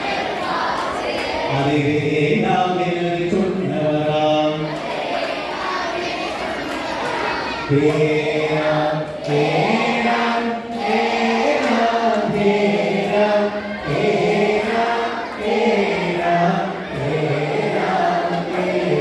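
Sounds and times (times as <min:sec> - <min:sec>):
children and adults singing in unison: 0:00.0 - 0:19.0.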